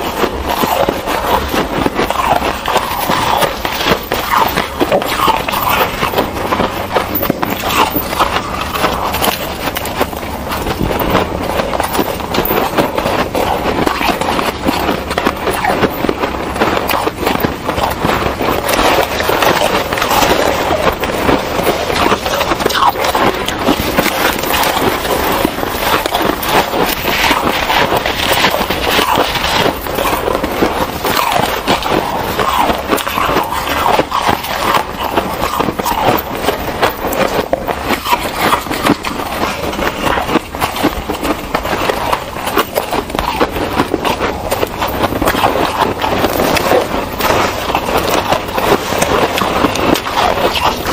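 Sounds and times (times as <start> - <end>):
crunching shaved ice: 0.0 - 50.9.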